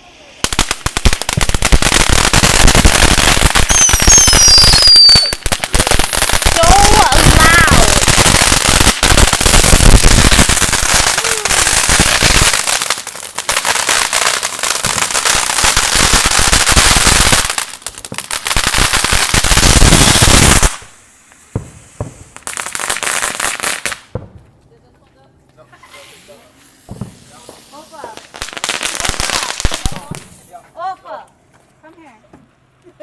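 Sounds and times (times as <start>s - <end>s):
firecrackers popping: 0.0s - 24.6s, 25.7s - 30.6s.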